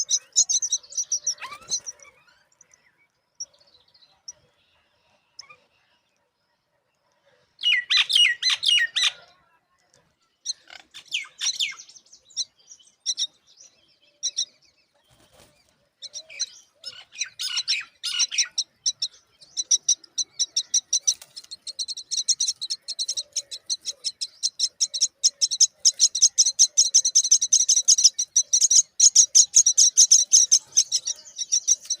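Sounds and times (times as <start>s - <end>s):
myna chicks begging chirps: 0.0s - 2.8s, 7.6s - 9.3s, 10.4s - 32.0s.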